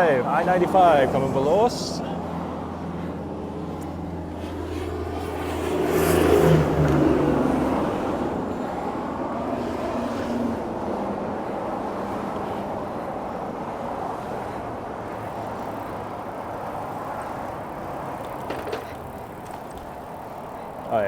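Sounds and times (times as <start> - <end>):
highway traffic rushing: 0.0 - 21.0.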